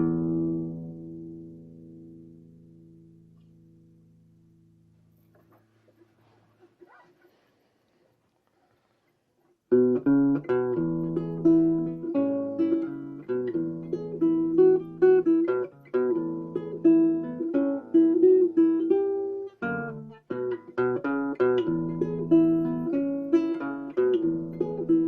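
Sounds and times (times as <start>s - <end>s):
fingerpicked nylon-string guitar: 0.0s - 8.1s, 8.8s - 25.0s.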